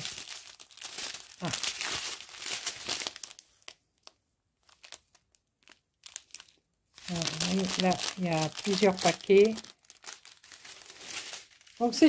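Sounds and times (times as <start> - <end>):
plastic sachets crinkling: 0.0 - 12.0.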